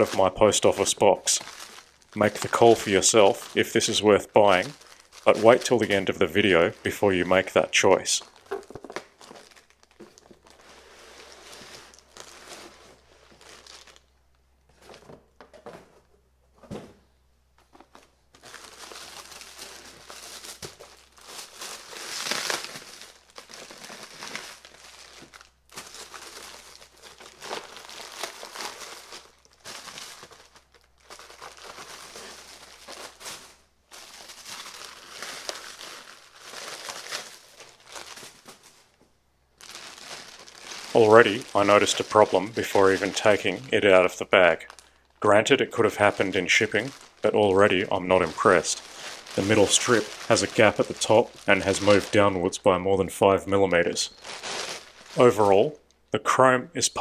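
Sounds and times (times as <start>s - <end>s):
plastic packaging crinkling: 0.0s - 15.8s, 17.6s - 56.0s.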